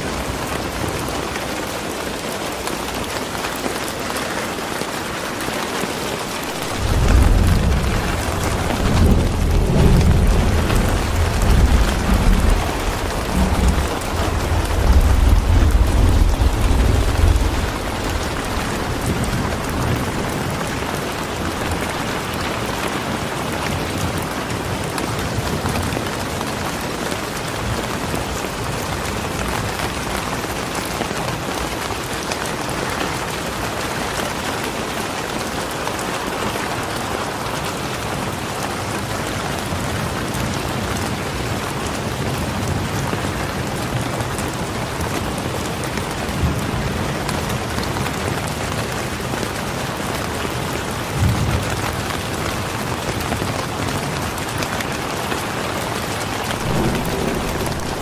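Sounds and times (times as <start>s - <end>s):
calm rain falling: 0.0s - 58.0s.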